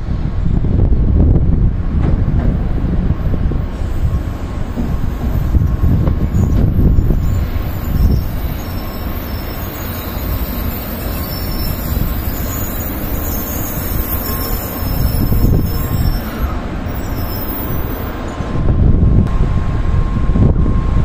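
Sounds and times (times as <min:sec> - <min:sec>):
train braking low rumble: 0:00.2 - 0:21.0.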